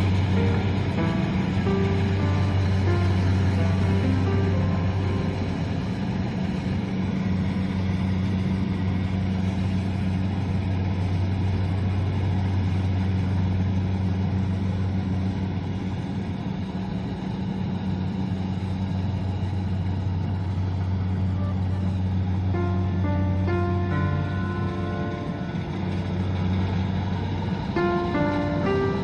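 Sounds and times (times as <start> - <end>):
combine harvester diesel engine: 0.0 - 29.0.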